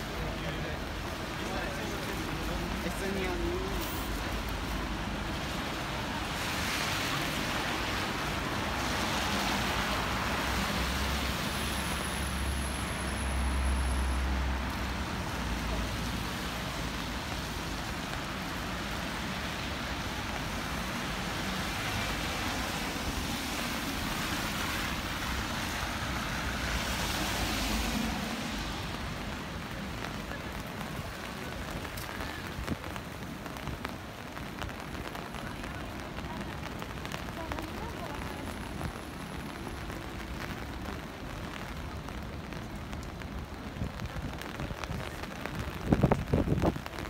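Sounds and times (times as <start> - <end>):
rain hiss: 0.0 - 47.0
tyres hissing on wet asphalt: 0.0 - 47.0.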